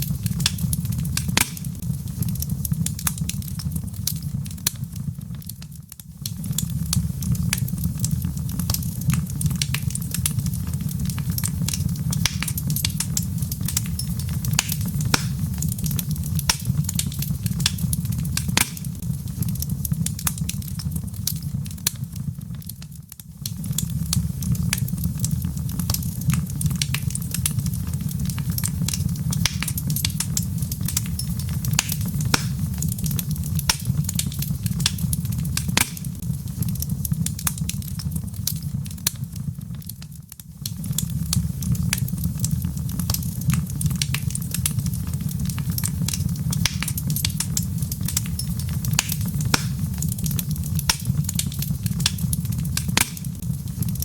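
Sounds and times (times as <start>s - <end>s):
log fire crackling: 0.0s - 54.0s
sharp pops of fire: 0.0s - 54.0s.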